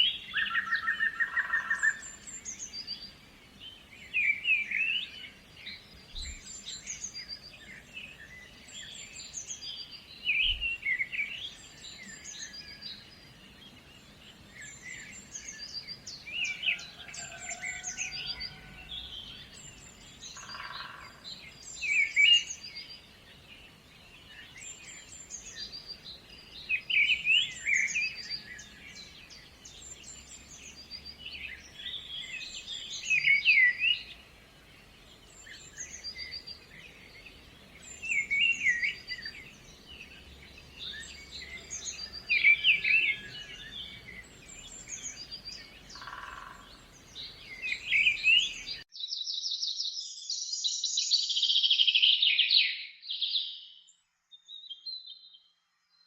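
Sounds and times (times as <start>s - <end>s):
birds singing and chirping: 0.0s - 56.0s.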